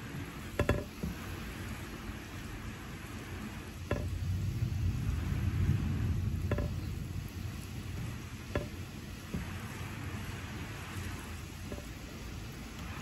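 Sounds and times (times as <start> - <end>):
distant thunder rumble: 0.0 - 13.0
steady rain: 0.0 - 13.0.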